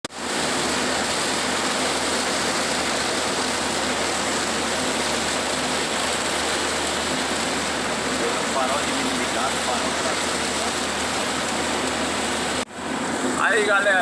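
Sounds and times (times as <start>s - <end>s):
heavy rain and water spray: 0.0s - 14.0s.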